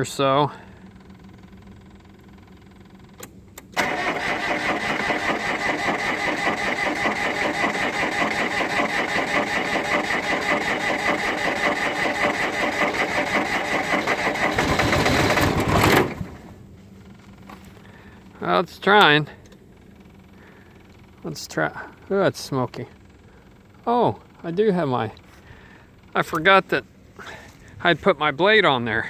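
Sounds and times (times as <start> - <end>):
starter cranking diesel engine: 0.0 - 26.6.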